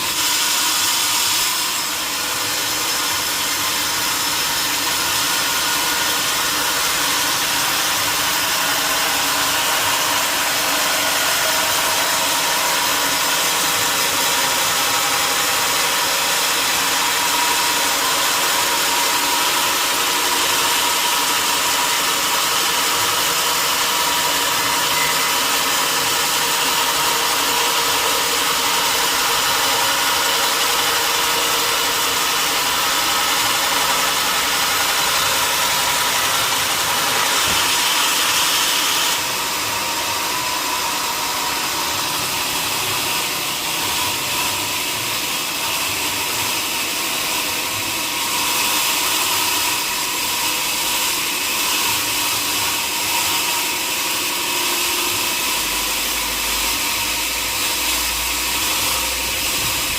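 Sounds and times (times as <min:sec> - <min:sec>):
sawmill machinery hiss: 0:00.0 - 0:59.9.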